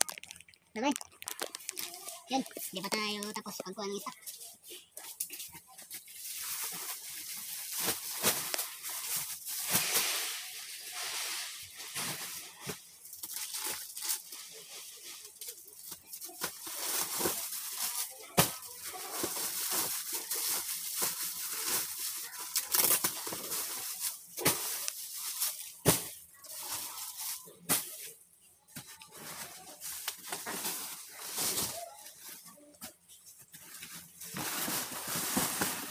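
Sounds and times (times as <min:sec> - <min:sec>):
plastic wrapping crinkling and rustling: 0:00.0 - 0:35.9.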